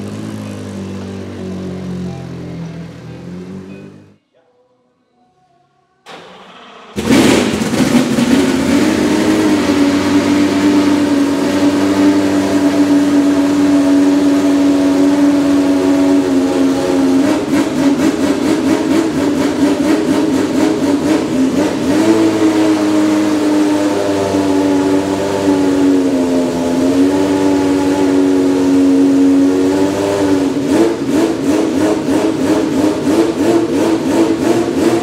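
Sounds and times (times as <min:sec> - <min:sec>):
racing car engine idling: 0:00.0 - 0:04.2, 0:06.1 - 0:35.0.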